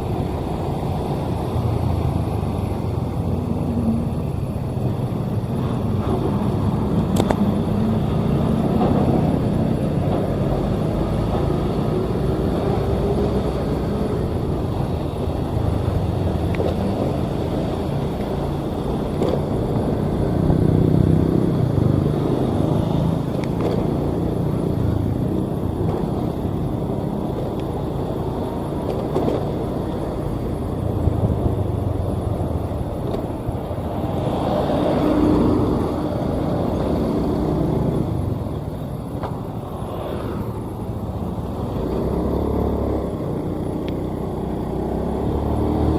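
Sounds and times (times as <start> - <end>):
road noise: 0.0 - 45.9
vehicle engine: 0.0 - 45.9.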